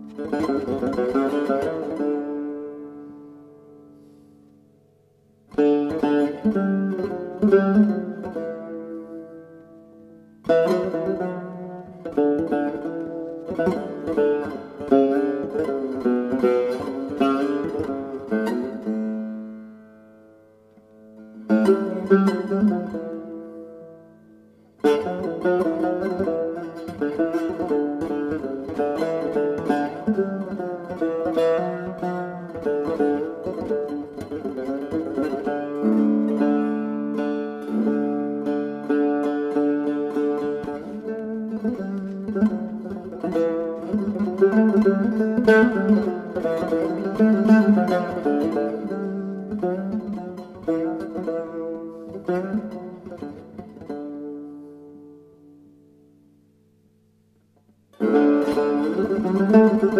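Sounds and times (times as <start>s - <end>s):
plucked lute solo: 0.0s - 59.9s.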